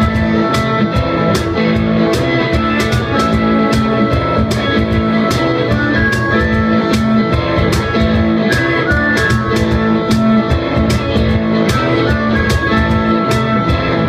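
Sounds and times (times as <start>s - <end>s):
band playing guitar-led music: 0.0s - 14.0s.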